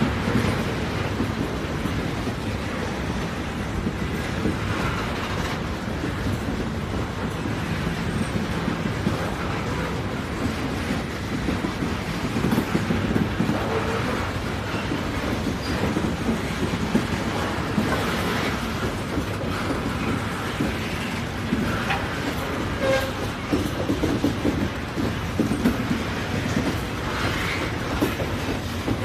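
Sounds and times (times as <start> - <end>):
moving train rumble: 0.0 - 29.0.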